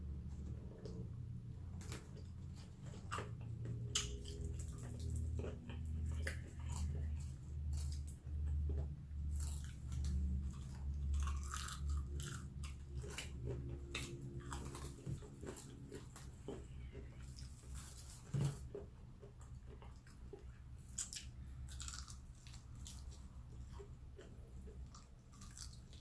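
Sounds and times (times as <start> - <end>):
low steady hum: 0.0 - 26.0
chewing crispy fried chicken: 0.5 - 26.0.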